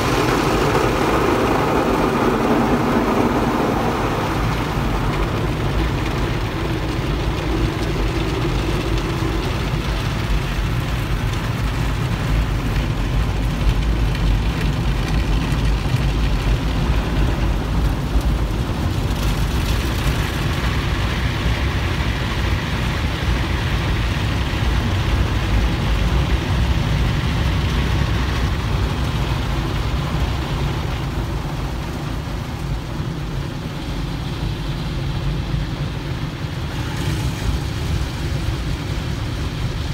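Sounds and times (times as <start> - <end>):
continuous low rumble: 0.0 - 39.9
water spraying over car: 0.0 - 39.9.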